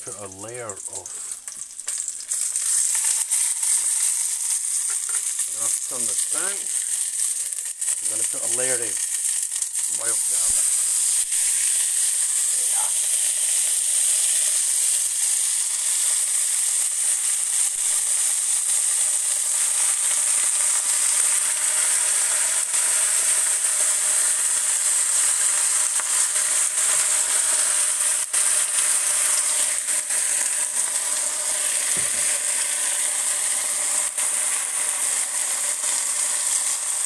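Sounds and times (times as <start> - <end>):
meat sizzling in a pot: 0.0 - 37.0.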